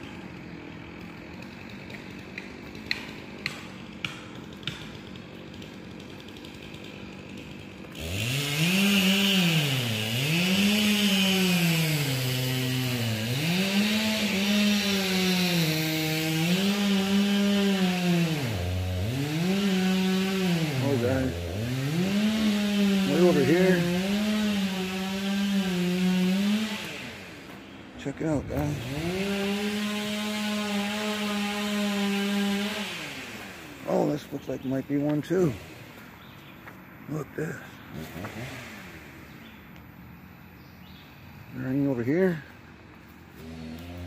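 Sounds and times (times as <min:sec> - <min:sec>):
chainsaw engine revving: 0:00.0 - 0:36.2, 0:37.1 - 0:39.6, 0:43.3 - 0:44.0.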